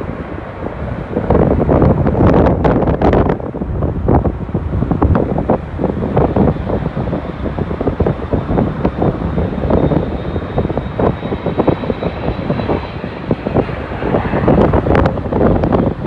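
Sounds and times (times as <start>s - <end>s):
jet engines running: 0.0s - 16.0s
wind buffeting microphone: 0.0s - 16.0s.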